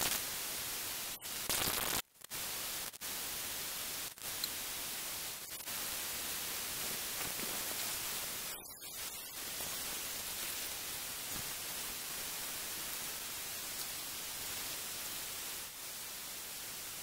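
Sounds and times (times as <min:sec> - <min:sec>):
fan running with airy hiss: 0:00.0 - 0:17.0.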